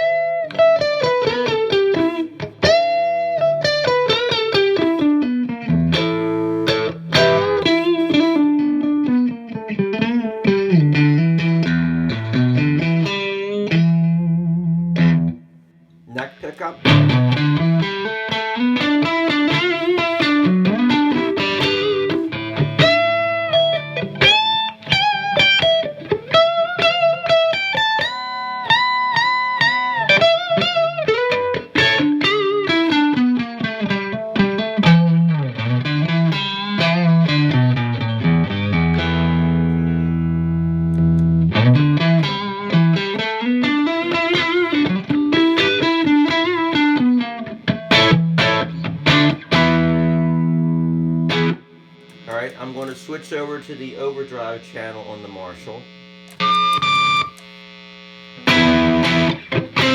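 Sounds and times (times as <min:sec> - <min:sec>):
clean electric guitar: 0:00.0 - 0:59.9.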